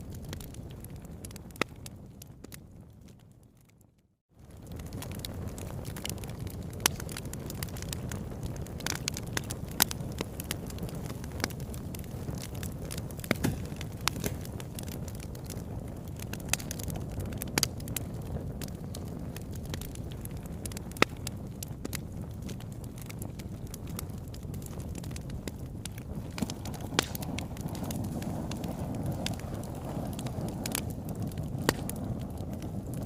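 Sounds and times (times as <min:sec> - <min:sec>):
fire flames rushing: 0:00.0 - 0:03.2, 0:04.4 - 0:33.0
fire crackling and popping: 0:00.0 - 0:33.0.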